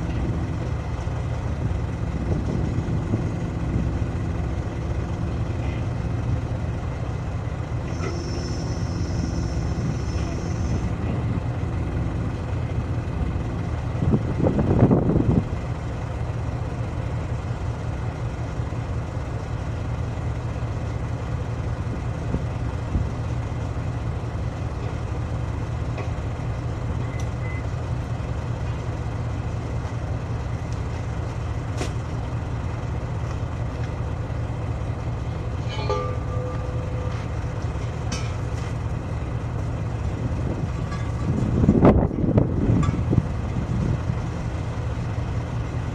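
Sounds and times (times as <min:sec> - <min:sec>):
large engine idling: 0:00.0 - 0:45.9.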